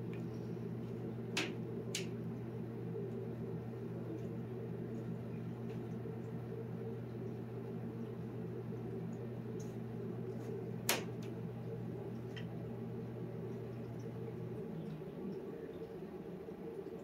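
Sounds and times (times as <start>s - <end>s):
low hum with pitched tones: 0.0s - 17.0s.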